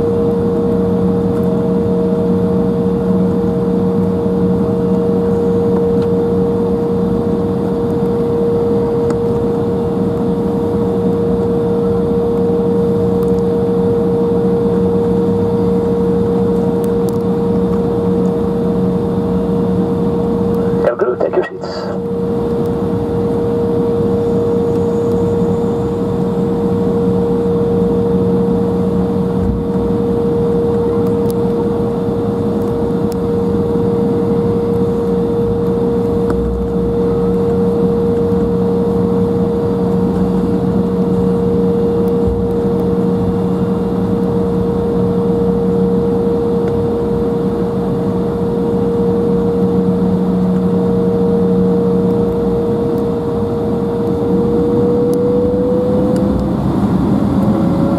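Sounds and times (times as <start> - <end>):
airliner cabin engine rush: 0.0 - 57.9.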